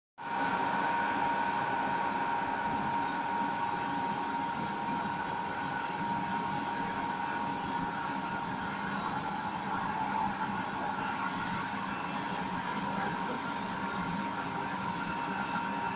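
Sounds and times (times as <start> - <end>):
machine high whine: 0.2 - 15.9.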